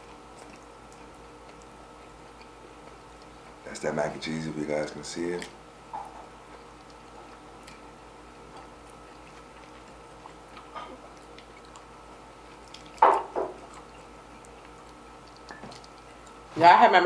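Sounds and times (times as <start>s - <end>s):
wet mouth sounds of eating: 0.0s - 3.6s, 6.2s - 16.5s
faint steady hum: 0.0s - 17.0s.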